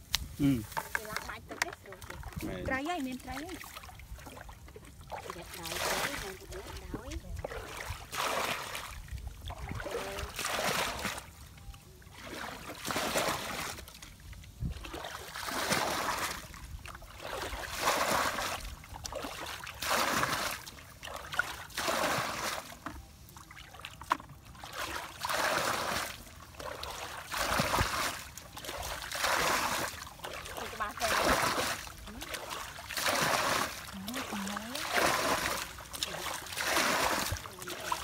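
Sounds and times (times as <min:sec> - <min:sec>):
muddy water sloshing: 0:00.2 - 0:38.0.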